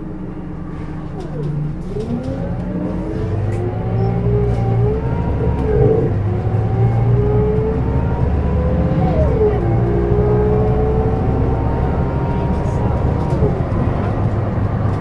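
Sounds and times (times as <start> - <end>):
bus diesel engine accelerating: 0.0 - 15.0
gearbox shifting up: 0.9 - 15.0.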